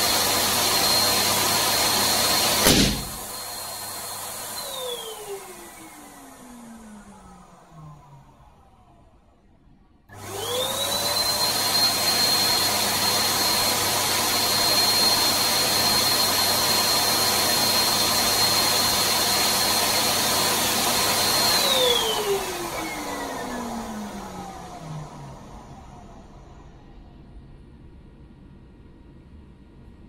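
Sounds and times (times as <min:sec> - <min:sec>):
electric pump whining: 0:00.0 - 0:09.3, 0:10.1 - 0:26.6.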